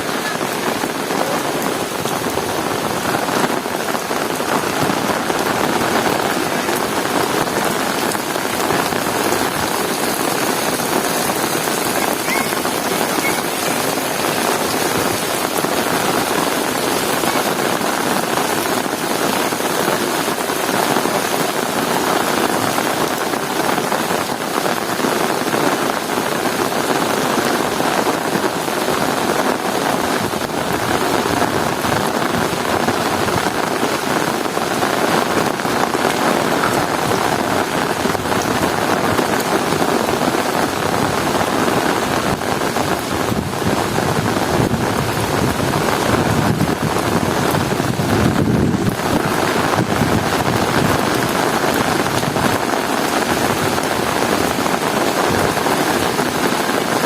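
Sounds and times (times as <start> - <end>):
heavy rain on hard surfaces: 0.0 - 57.0.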